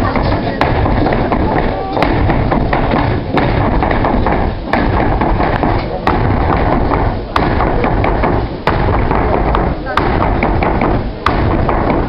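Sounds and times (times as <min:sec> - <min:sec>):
dancers' shoes tapping on stage: 0:00.0 - 0:12.0
loud dense background noise: 0:00.0 - 0:12.0.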